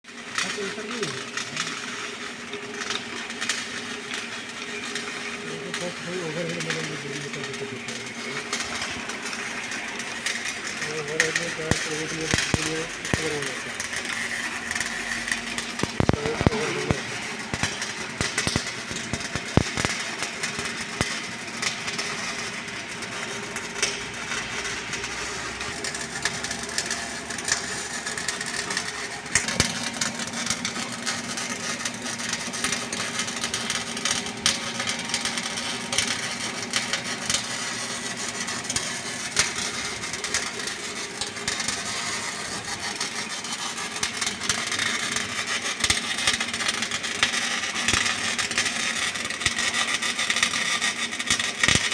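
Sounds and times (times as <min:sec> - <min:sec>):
welding arc crackling and popping: 0:00.1 - 0:51.9.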